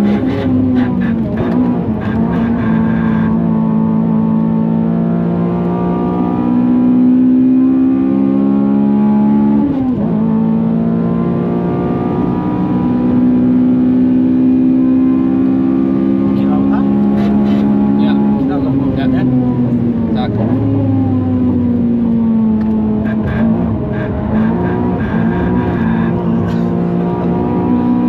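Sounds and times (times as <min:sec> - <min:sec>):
car engine at full throttle: 0:00.0 - 0:28.0.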